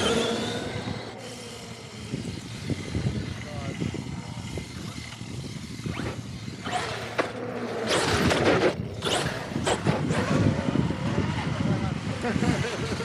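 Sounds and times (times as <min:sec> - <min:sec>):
electric toy truck driving past: 0:00.0 - 0:11.6.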